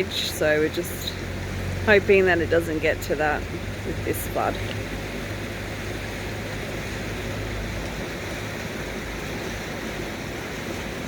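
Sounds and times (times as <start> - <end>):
floodwater rushing in creek: 0.0 - 11.0.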